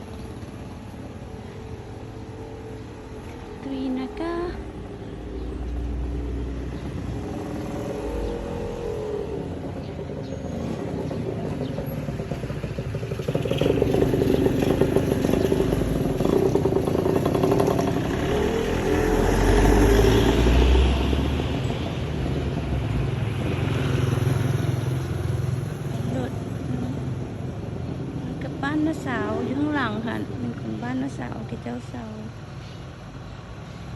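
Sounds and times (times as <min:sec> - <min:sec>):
road noise: 0:00.0 - 0:33.9.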